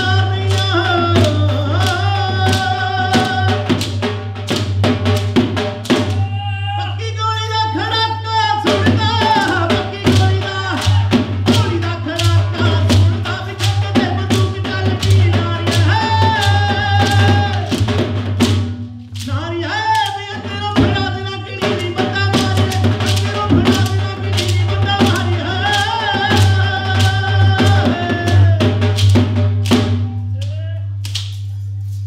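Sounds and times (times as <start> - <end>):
drum beats: 0.0 - 32.0.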